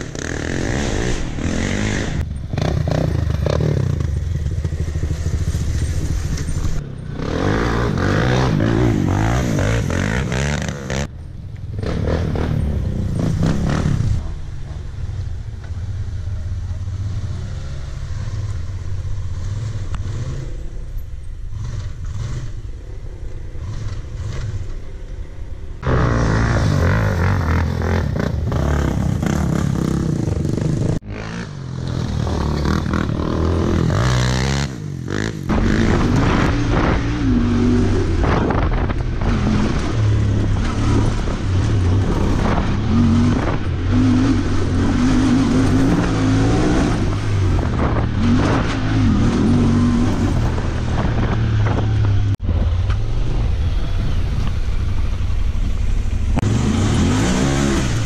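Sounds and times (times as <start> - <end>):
off-road vehicle engines revving: 0.0 - 14.9, 15.6 - 58.0.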